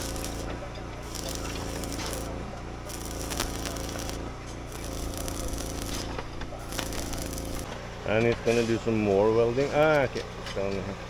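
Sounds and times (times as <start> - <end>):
low hum: 0.0 - 9.4
arc welding crackling sizzle: 0.0 - 9.8.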